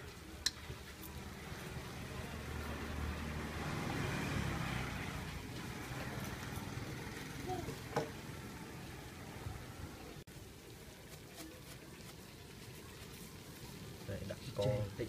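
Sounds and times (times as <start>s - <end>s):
pot simmering hiss: 0.0s - 3.6s, 5.0s - 15.0s.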